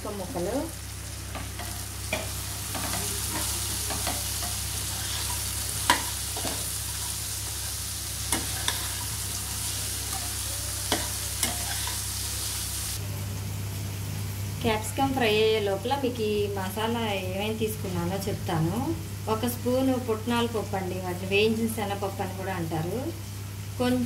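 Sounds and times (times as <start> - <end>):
vegetables sizzling in hot oil: 0.0 - 24.0.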